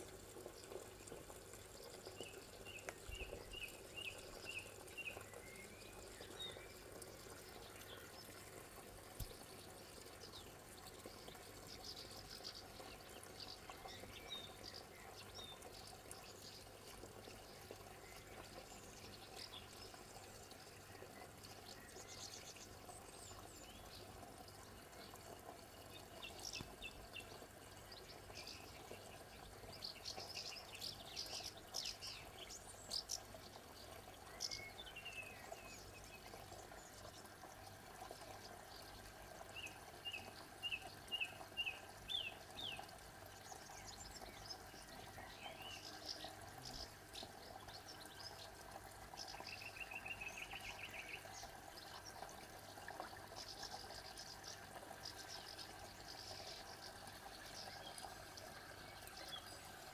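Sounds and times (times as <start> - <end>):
faint outdoor ambience: 0.0 - 59.9
small birds chirping: 0.0 - 59.9.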